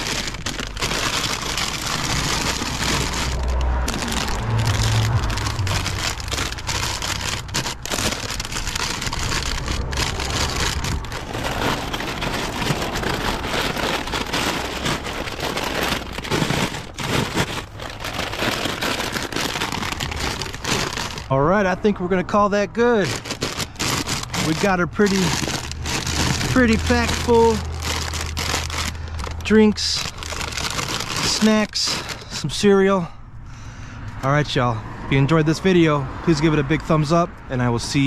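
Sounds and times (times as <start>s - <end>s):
plastic bags crinkling: 0.0s - 21.7s, 22.9s - 32.5s.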